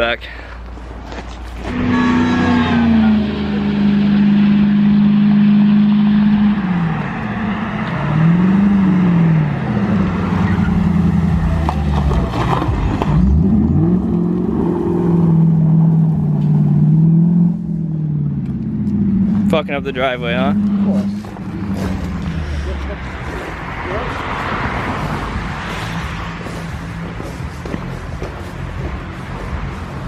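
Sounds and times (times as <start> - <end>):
loud straight-piped engine: 1.6 - 30.0.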